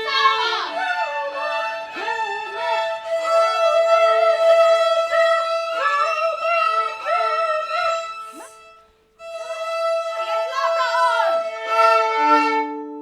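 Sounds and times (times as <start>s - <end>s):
lower violin part: 0.0s - 13.0s
violin melody: 0.0s - 13.0s.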